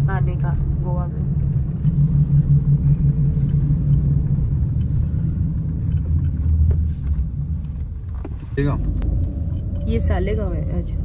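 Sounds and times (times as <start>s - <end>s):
car cabin engine and tyre rumble: 0.0s - 11.0s.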